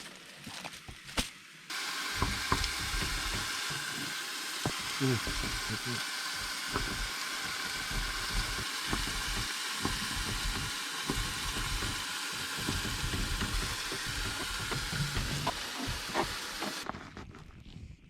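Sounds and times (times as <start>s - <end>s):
food sizzling in a frying pan: 1.7s - 16.8s.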